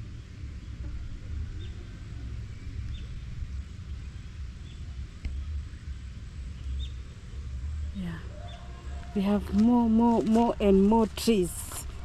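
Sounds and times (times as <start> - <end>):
low rumble on microphone: 0.0 - 12.0.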